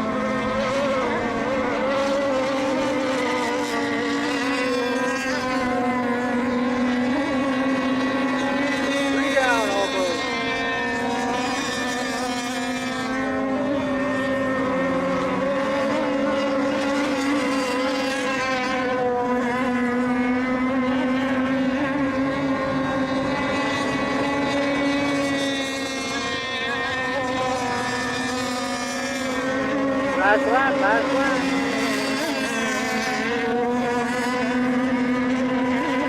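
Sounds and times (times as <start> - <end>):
racing boat engines buzzing: 0.0 - 36.0.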